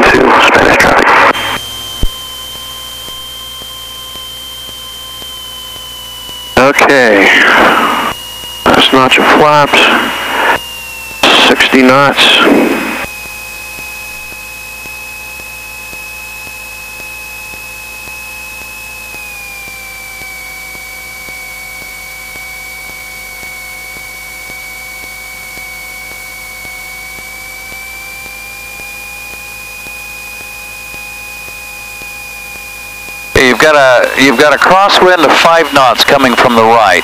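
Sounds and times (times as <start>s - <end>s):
aircraft engine and propeller drone: 0.0s - 37.0s.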